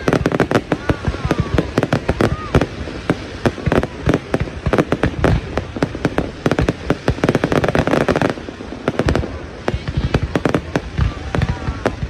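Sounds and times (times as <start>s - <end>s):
aerial fireworks bangs and crackles: 0.0s - 12.0s.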